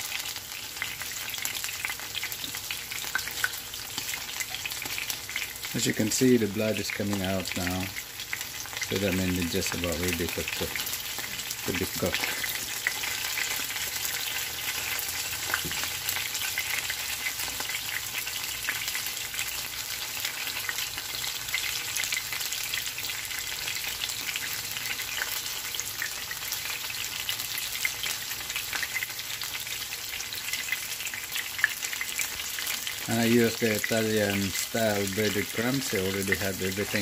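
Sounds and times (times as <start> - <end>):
meat sizzling in hot oil: 0.0 - 37.0.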